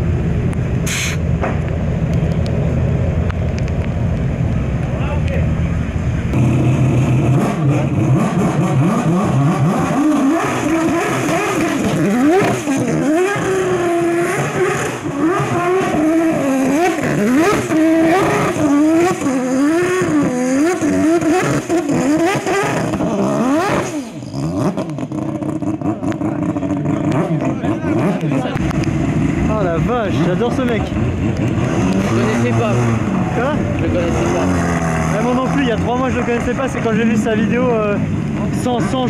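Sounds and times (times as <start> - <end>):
car engine revving hard: 6.3 - 39.0.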